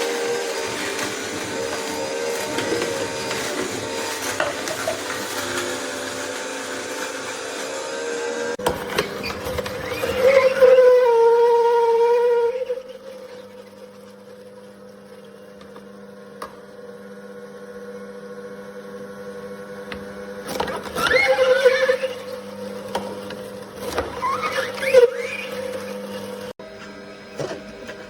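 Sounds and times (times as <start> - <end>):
juicer motor humming: 0.0 - 28.0
juicer pressing noise: 0.0 - 28.0.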